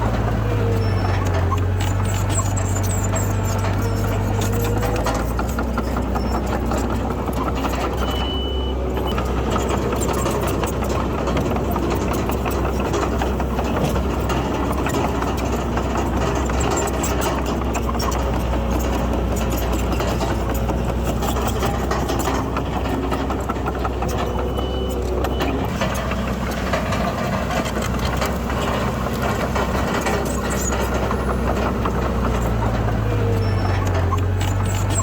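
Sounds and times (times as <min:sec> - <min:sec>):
diesel engine under load: 0:00.0 - 0:35.0
machinery clanks and knocks: 0:00.0 - 0:35.0.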